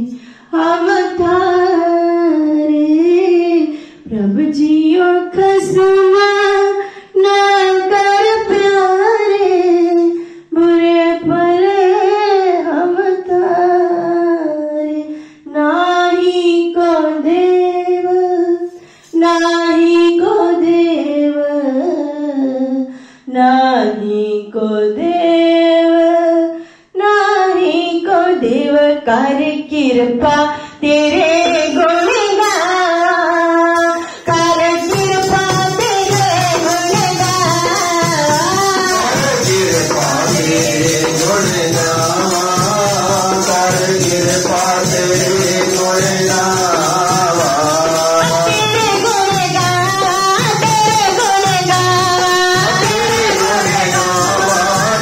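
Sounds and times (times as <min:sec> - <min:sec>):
woman singing a hymn: 0:00.0 - 0:55.0.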